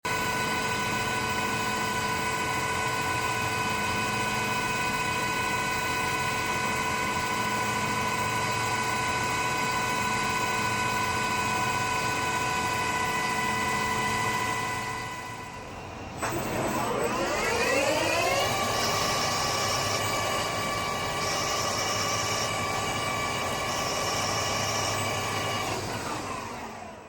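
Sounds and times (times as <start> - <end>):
machine tool high whine: 0.1 - 27.0
mechanical hum: 0.1 - 27.0.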